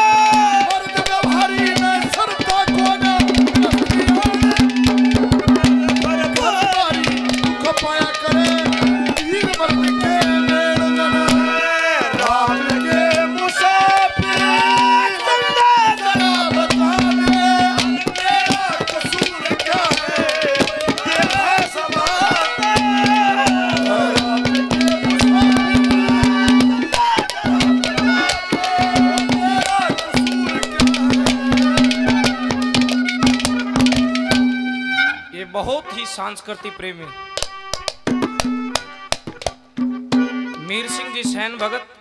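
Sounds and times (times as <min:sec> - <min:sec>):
wavering melody line: 0:00.0 - 0:11.6, 0:12.2 - 0:35.4
rapid hand-drum strokes: 0:00.0 - 0:34.8.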